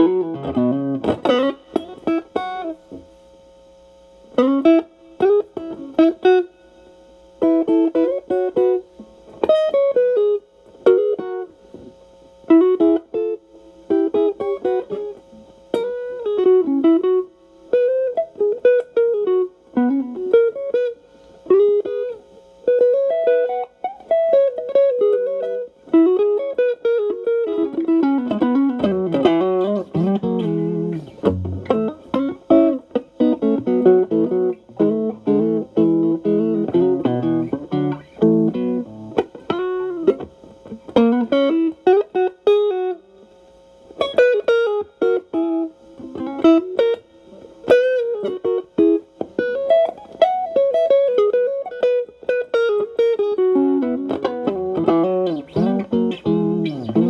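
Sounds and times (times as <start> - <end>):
overdriven electric guitar lead: 0.0 - 3.1, 7.4 - 43.3, 43.9 - 57.0.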